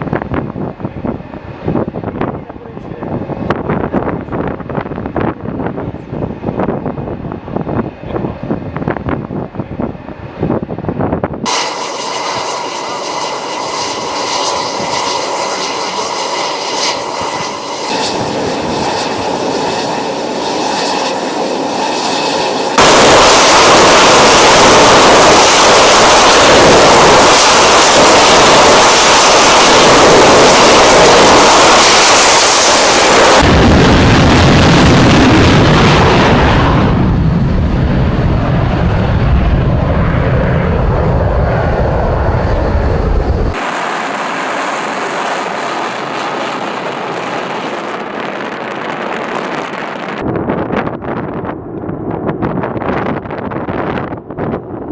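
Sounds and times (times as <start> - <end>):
aircraft engine at full power: 0.0 - 54.9
jet turbine engine whine: 0.0 - 54.9.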